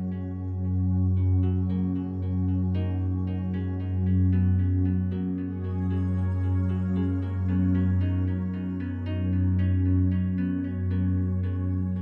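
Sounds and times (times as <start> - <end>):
low drone: 0.0 - 12.0
sustained chord: 0.0 - 12.0.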